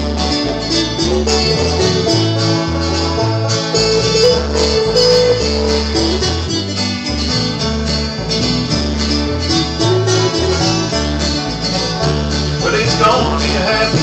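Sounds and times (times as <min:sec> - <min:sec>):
guitar over bass notes: 0:00.0 - 0:14.0.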